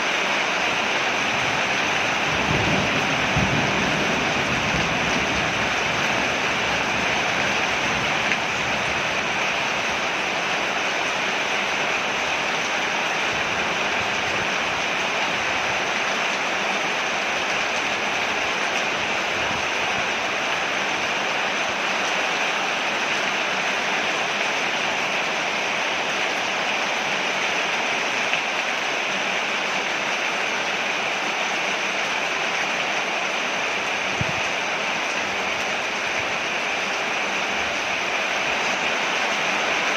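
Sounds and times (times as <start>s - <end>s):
rain falling on a porch: 0.0s - 39.9s.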